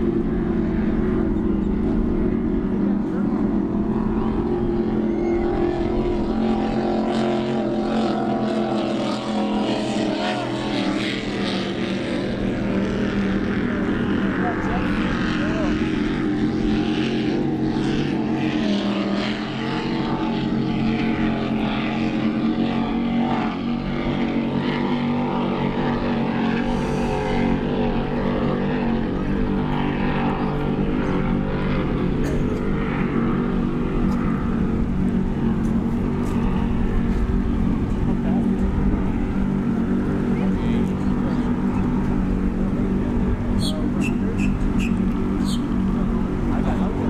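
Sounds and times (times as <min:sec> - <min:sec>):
powerboat engines droning: 0:00.0 - 0:47.0.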